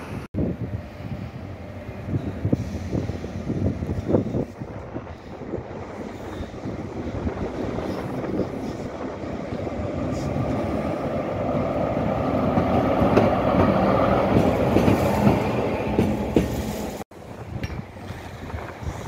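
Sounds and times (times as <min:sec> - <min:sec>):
diesel locomotive passing: 0:00.0 - 0:19.0.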